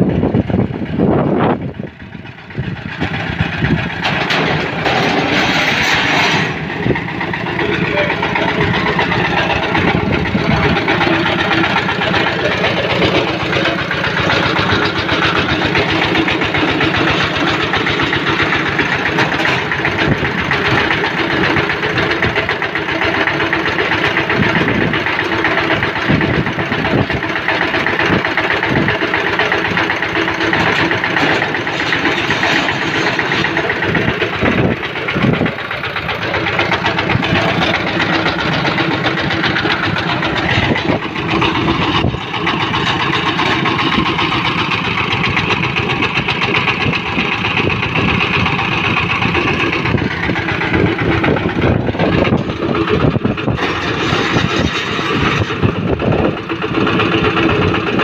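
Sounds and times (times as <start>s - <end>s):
diesel engine knocking: 0.0s - 58.0s.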